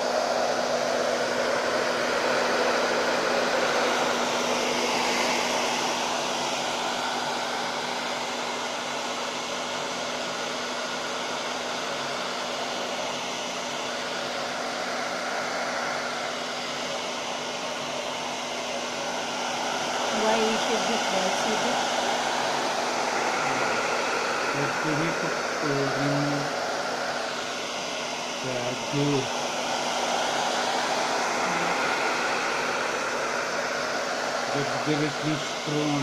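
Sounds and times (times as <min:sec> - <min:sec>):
hair dryer blowing: 0:00.0 - 0:36.0.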